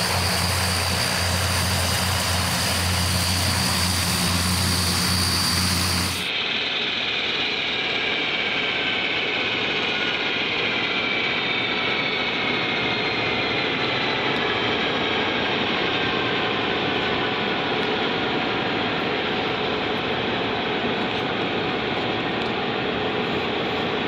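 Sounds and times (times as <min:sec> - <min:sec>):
high turbine whine: 0:00.0 - 0:24.0
propeller drone: 0:00.0 - 0:24.0.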